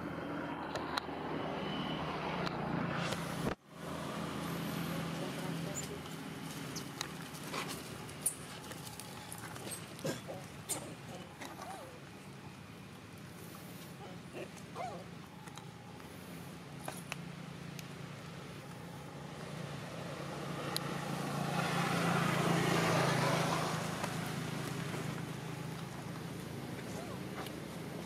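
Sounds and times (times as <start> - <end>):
road vehicle passing: 0.0 - 28.0.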